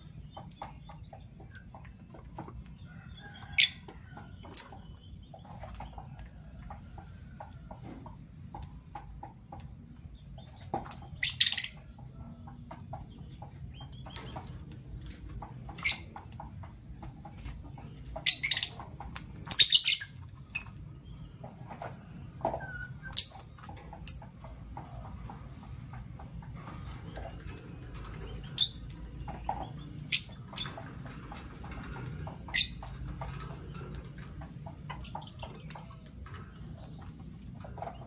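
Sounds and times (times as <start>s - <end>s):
lovebirds chirping: 0.0s - 38.0s.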